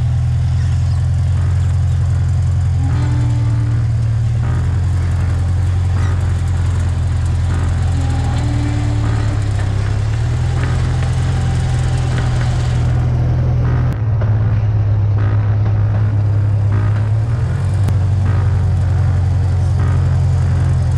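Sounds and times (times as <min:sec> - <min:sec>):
engine idling low drone: 0:00.0 - 0:20.9.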